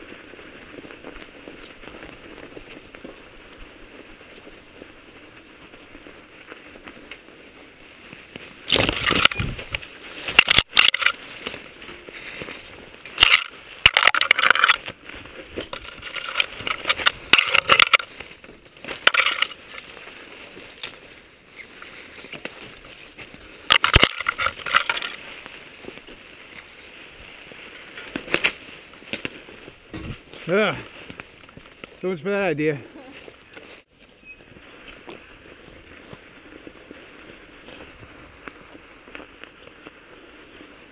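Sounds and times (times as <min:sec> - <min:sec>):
bike tyres crunching through snow: 0:00.0 - 0:40.9
branches brushing past: 0:00.0 - 0:40.9.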